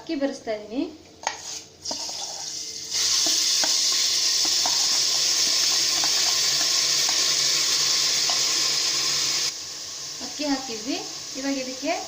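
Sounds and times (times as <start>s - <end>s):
rice sizzling in hot oil: 1.4s - 12.0s.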